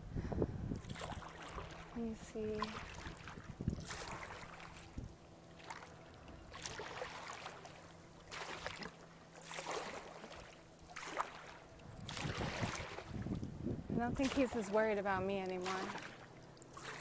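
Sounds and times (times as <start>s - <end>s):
paddle splashing through water: 0.8s - 17.0s.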